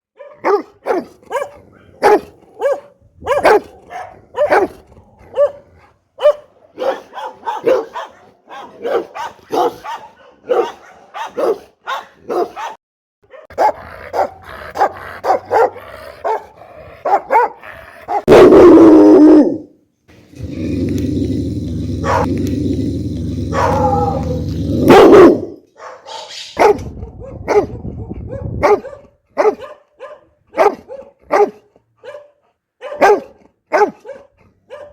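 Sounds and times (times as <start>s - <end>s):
dog barking deeply: 0.2s - 19.7s, 20.4s - 34.9s.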